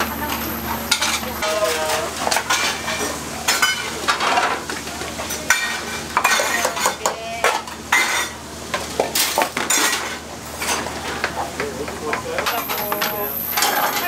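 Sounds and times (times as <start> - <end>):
metal pots clinking: 0.0 - 11.2, 11.9 - 14.0.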